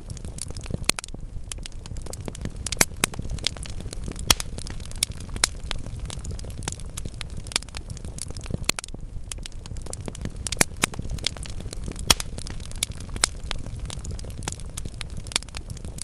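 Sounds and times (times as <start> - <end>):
fireplace fire crackling: 0.0 - 16.0
low rumble of flames: 0.0 - 16.0.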